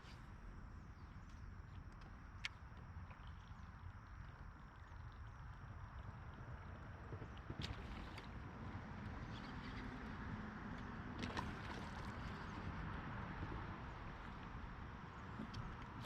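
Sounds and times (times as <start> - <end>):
wind and water rumble: 0.2 - 16.0.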